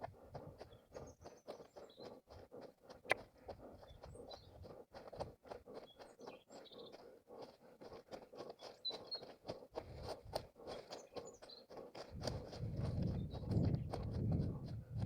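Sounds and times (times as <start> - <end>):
running footsteps on forest floor: 0.0 - 15.0
small birds chirping: 0.0 - 15.0.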